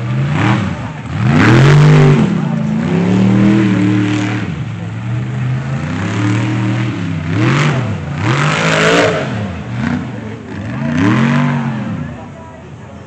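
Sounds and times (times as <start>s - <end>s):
truck engine revving: 0.0s - 12.8s.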